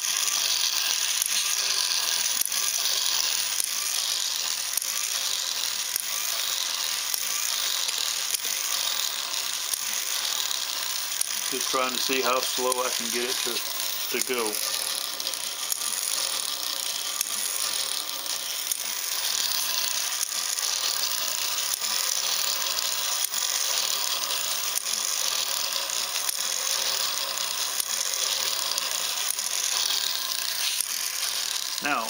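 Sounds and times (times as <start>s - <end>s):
motor and gears whirring: 0.0s - 32.0s.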